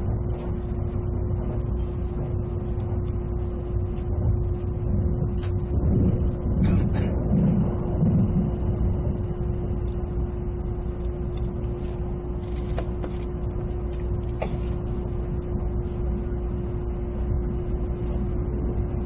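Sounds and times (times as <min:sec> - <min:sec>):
train interior rumble and hum: 0:00.0 - 0:19.0.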